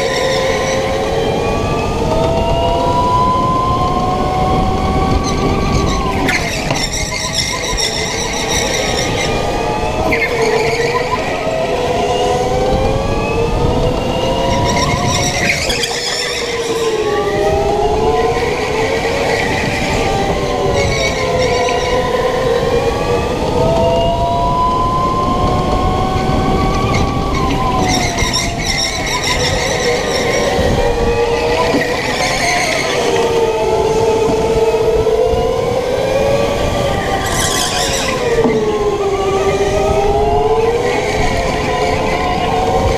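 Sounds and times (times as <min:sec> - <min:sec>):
go-kart motor drone: 0:00.0 - 0:42.9
rumbling tyre and track noise: 0:00.0 - 0:42.9.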